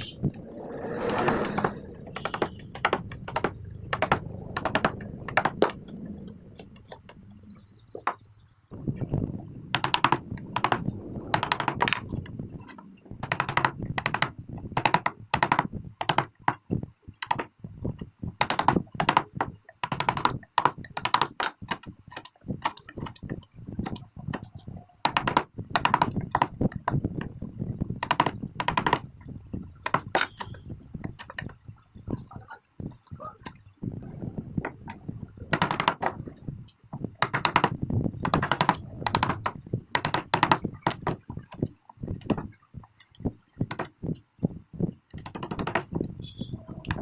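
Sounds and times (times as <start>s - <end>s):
tools tapping wood: 1.3s - 6.0s, 9.7s - 27.3s, 28.0s - 33.6s, 34.6s - 44.2s, 45.1s - 46.2s.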